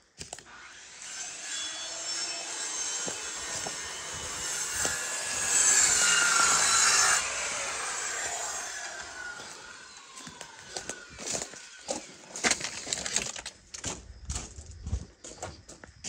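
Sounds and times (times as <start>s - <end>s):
power saw cutting wood: 0.2s - 13.5s.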